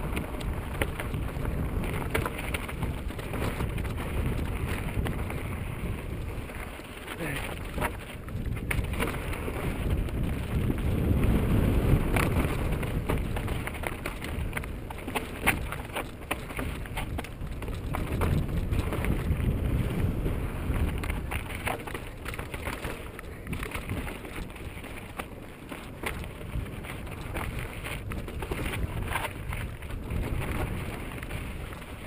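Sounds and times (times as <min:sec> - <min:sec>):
bike clattering over rocks: 0:00.0 - 0:32.0
wind buffeting microphone: 0:00.0 - 0:32.0.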